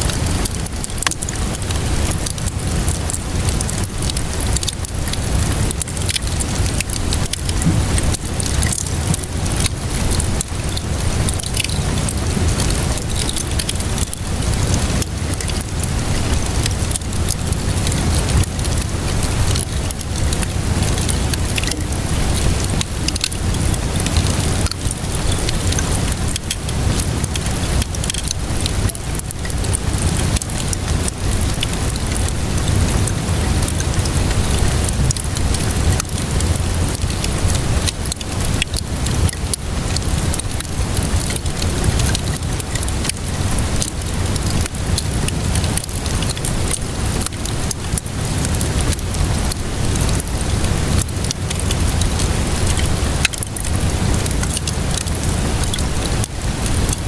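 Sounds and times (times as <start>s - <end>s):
steady rainfall: 0.0s - 57.0s
wood fire crackling: 0.0s - 57.0s.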